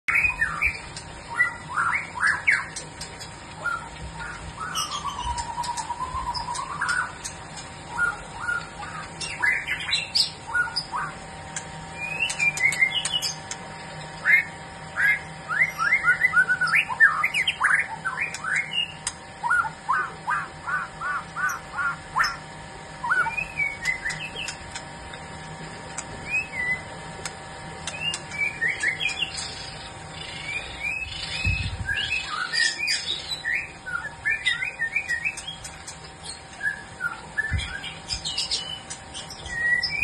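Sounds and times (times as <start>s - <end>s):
songbirds singing: 0.0s - 40.0s.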